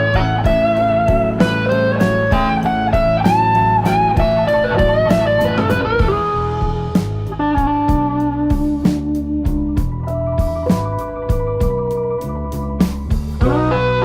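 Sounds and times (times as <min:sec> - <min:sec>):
blues-rock music with electric guitar: 0:00.0 - 0:14.0.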